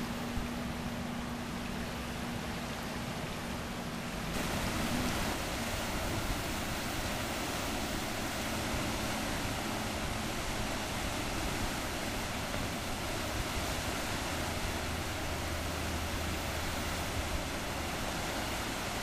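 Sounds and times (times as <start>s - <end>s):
whitewater rushing: 0.0s - 19.0s.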